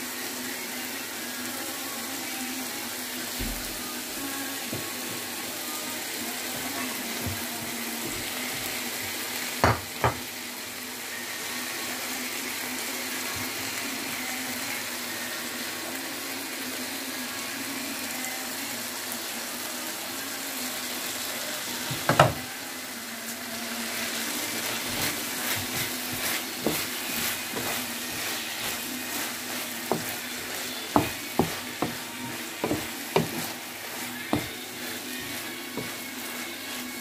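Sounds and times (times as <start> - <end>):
stir-fry sizzling in a frying pan: 0.0 - 37.0.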